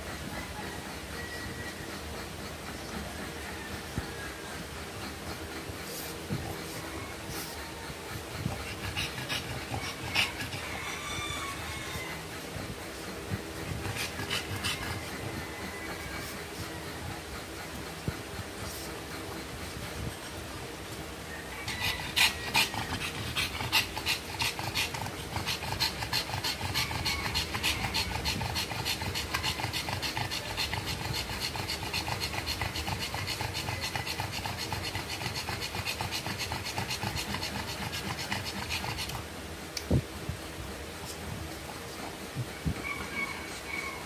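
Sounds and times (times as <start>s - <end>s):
dog panting rapidly: 0.0s - 44.0s.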